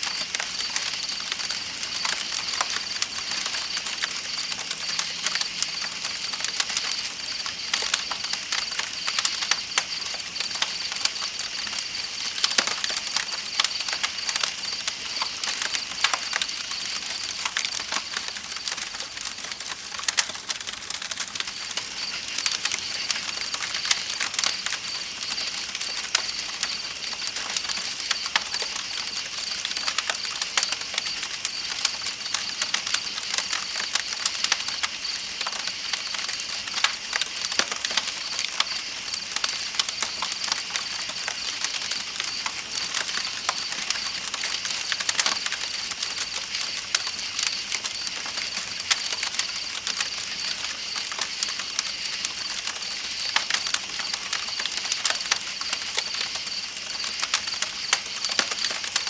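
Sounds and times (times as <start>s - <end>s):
campfire crackling and popping: 0.0s - 59.0s
night insects chirping: 0.0s - 59.0s.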